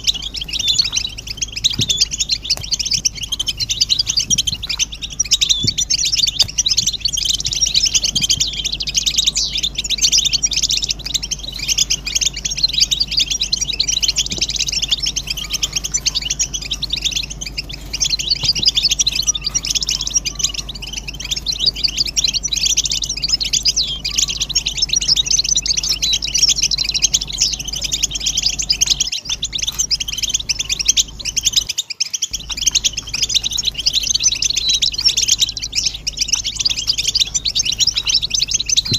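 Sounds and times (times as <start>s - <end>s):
goldfinches twittering: 0.0s - 38.9s.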